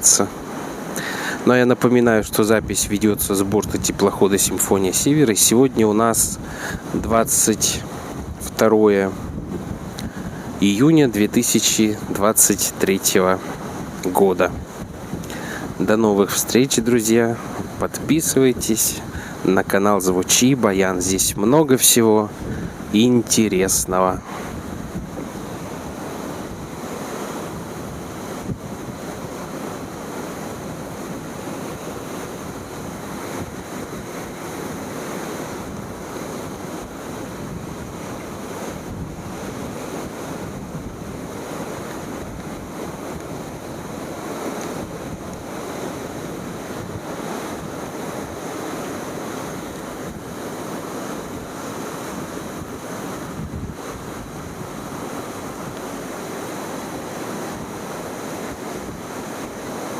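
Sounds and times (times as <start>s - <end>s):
waves washing along hull: 0.0s - 59.9s
wind buffeting microphone: 2.1s - 59.9s.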